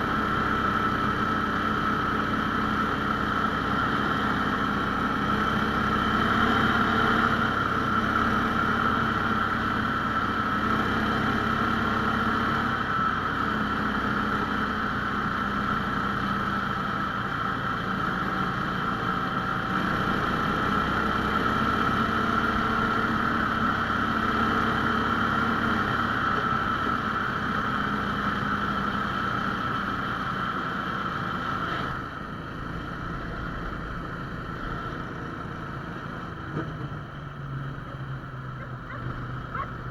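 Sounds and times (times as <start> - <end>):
motor sled engine running: 0.0 - 39.9.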